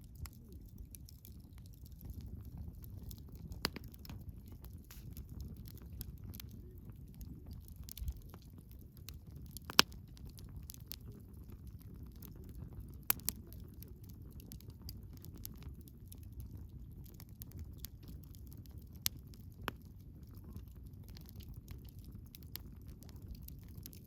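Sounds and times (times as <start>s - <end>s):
campfire crackles and pops: 0.0s - 24.0s
low rumble of flames: 0.0s - 24.0s.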